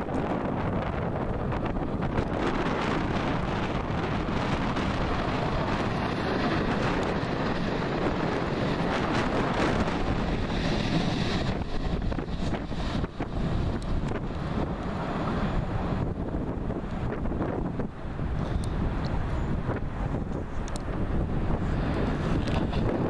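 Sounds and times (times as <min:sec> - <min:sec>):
passenger train running past: 0:00.0 - 0:23.0
wind buffeting microphone: 0:00.0 - 0:23.0.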